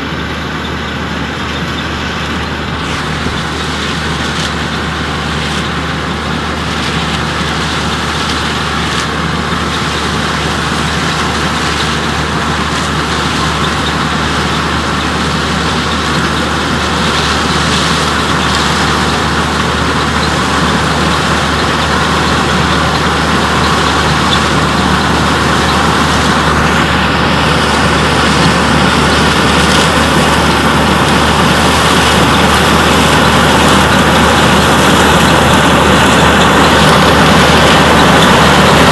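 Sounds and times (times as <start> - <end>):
combine engine hum: 0.0 - 38.9
threshing machinery clatter: 0.0 - 38.9.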